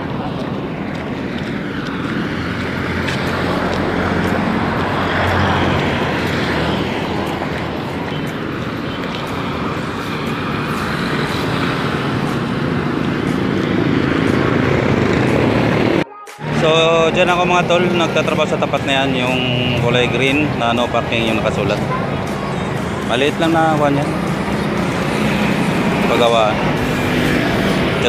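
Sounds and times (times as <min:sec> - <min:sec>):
motorcycle engines: 0:00.0 - 0:28.0
vehicle tyre noise: 0:00.0 - 0:28.0.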